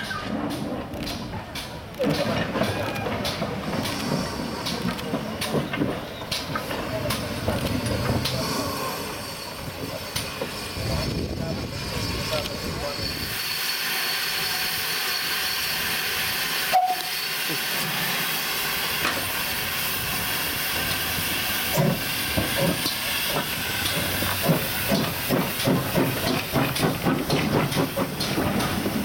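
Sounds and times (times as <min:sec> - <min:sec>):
steam locomotive exhaust beats: 0:00.0 - 0:29.0
steam locomotive hissing: 0:00.0 - 0:29.0.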